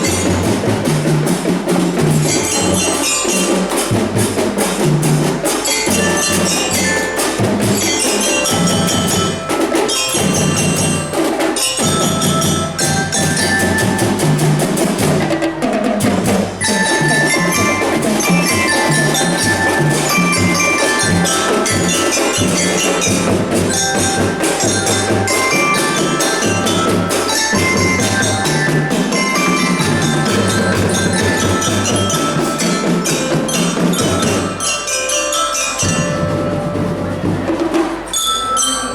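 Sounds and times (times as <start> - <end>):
glockenspiel melody: 0.0 - 15.3, 16.6 - 38.9
marching drums: 0.0 - 38.4.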